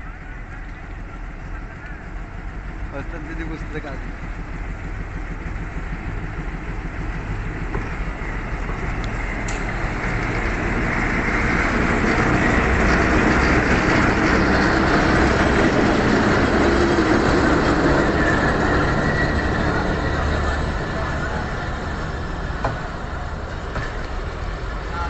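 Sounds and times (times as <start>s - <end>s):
diesel locomotive engine: 0.0s - 25.0s
wheels rumbling on rails: 0.0s - 25.0s.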